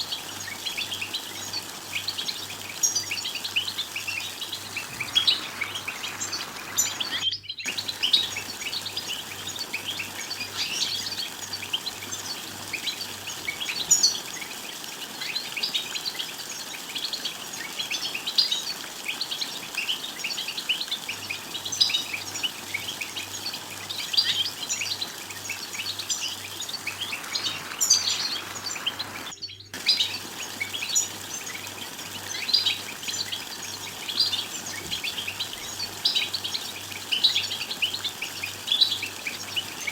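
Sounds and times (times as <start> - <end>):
goldfinch twittering: 0.0 - 39.9.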